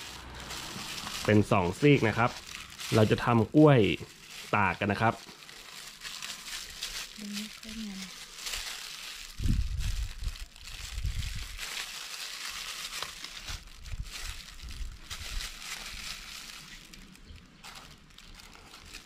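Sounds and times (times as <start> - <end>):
plastic glove crinkling: 0.0 - 19.0.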